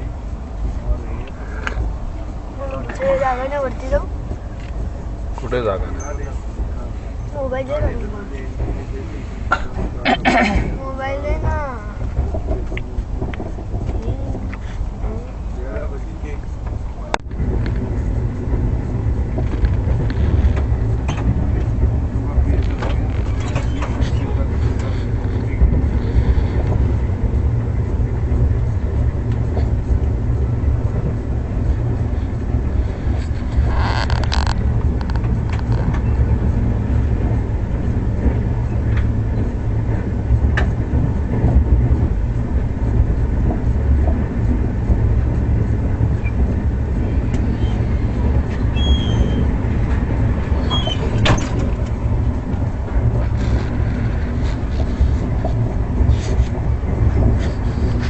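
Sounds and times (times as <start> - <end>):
train rumbling from inside: 0.0 - 58.0.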